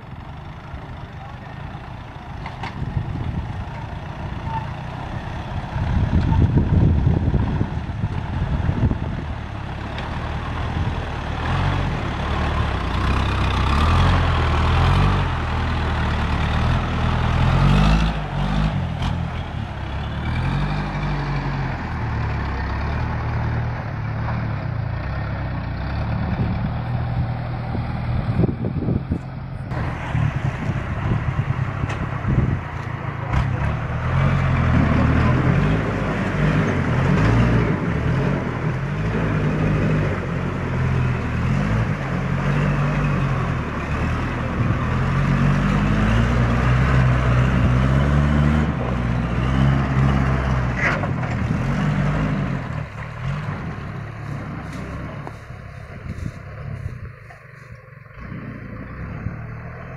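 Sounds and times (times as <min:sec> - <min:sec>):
heavy farm vehicle engine revving: 0:00.0 - 0:59.9.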